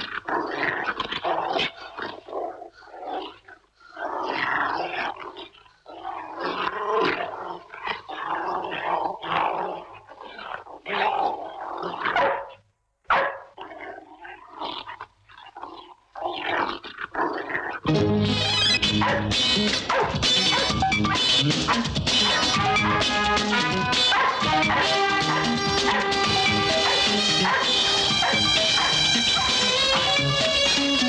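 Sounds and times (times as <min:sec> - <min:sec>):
dog growling and barking: 0:00.0 - 0:31.0.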